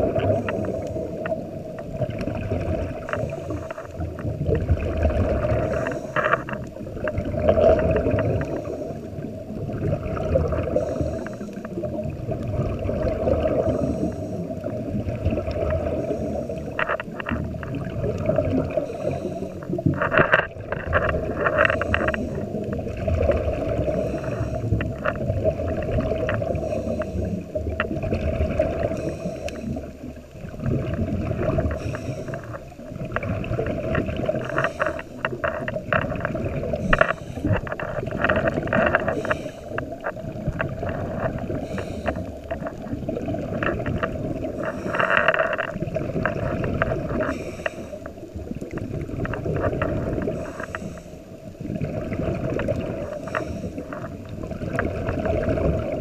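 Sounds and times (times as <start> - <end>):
bubbling exhaled air: 0.0 - 56.0
muffled underwater rumble: 0.0 - 56.0.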